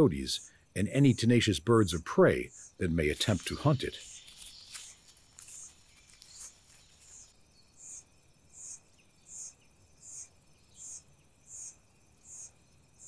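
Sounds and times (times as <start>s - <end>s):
faint high insect chirping: 0.0s - 13.0s.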